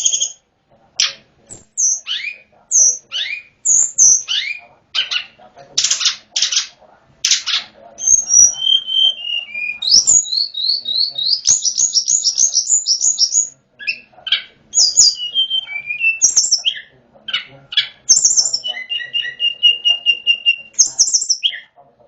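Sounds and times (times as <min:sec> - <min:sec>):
bird singing whistled notes: 0:00.0 - 0:00.4, 0:01.0 - 0:06.7, 0:07.3 - 0:21.8
harsh buzzy bird notes: 0:00.0 - 0:00.4, 0:01.0 - 0:21.7.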